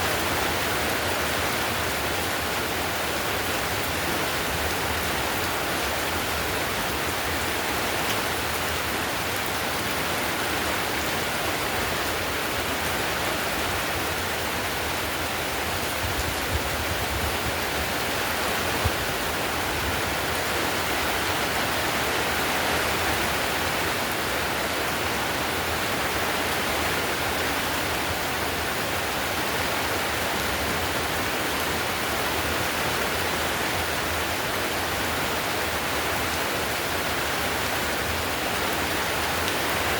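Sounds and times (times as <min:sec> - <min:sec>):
heavy rain on a tile roof: 0:00.0 - 0:39.9.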